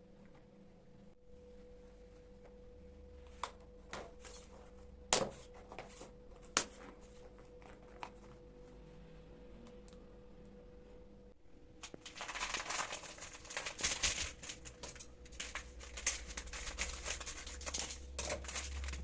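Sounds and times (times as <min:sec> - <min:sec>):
steady high-pitched hum: 0:00.0 - 0:19.0.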